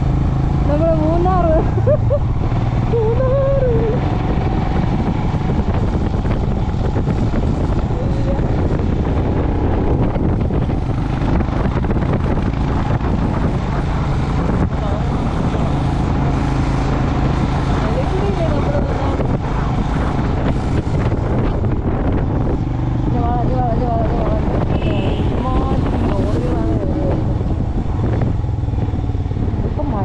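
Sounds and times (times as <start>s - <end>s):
motorcycle engine and road noise: 0.0s - 30.0s
wind buffeting microphone: 0.0s - 30.0s.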